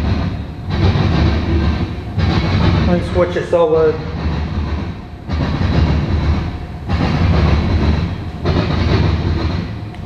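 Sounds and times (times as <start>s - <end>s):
steel wheels rumbling and clacking: 0.0s - 10.0s.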